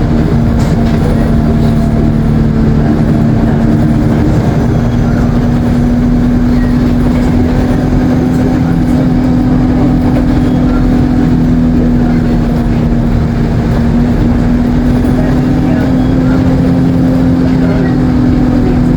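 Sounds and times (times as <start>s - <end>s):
bus engine droning: 0.0s - 18.9s.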